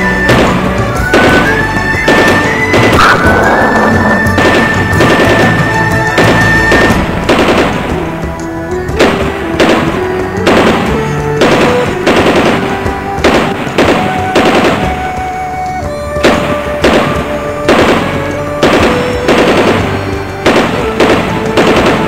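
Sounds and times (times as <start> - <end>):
gunshots: 0.0 - 15.3, 16.2 - 22.0
background music with held notes: 0.0 - 22.0.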